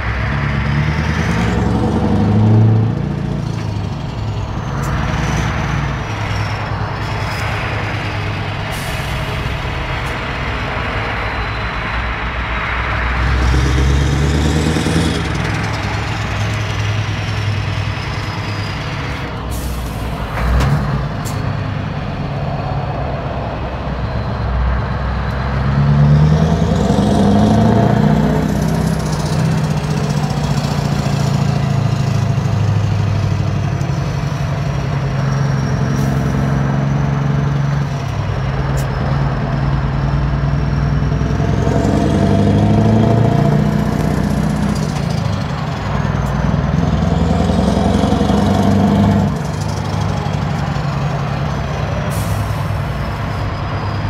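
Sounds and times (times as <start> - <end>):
diesel truck engine: 0.0 - 54.0.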